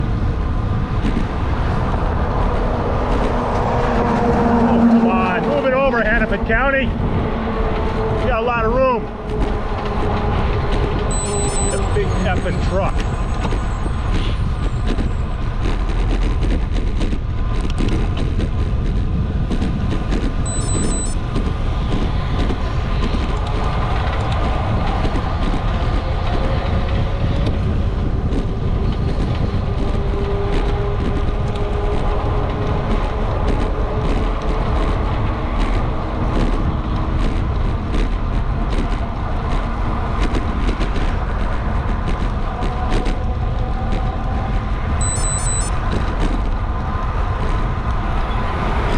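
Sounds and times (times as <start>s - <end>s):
road traffic rushing: 0.0s - 48.9s
truck engine and tyres: 0.0s - 48.9s.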